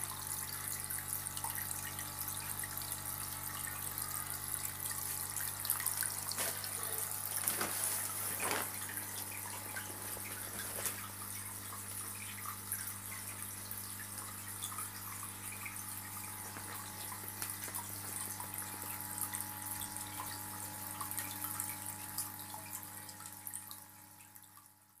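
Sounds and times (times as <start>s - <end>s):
aquarium pump humming: 0.0s - 25.0s
aquarium water bubbling: 0.0s - 25.0s.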